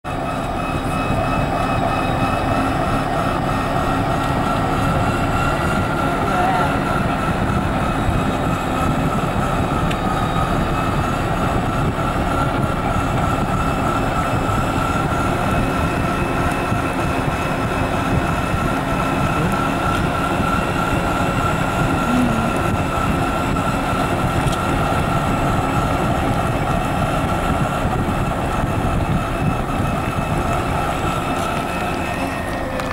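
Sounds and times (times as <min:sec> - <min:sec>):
scooter drive whine: 0:00.0 - 0:32.9
wind: 0:00.0 - 0:32.9.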